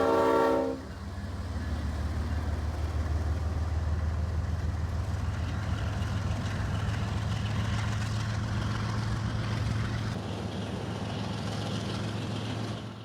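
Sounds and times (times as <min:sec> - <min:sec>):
locomotive diesel engines droning: 0:00.0 - 0:13.0.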